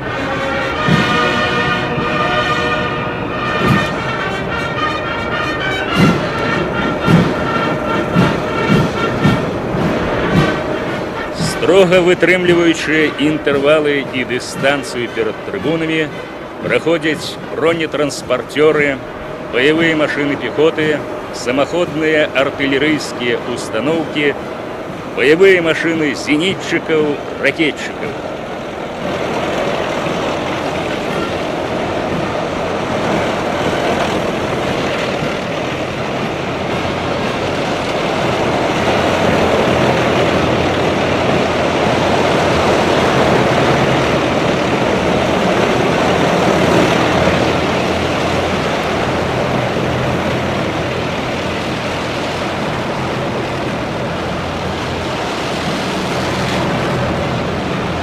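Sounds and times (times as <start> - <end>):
drone of many vehicle engines: 0.0 - 58.0.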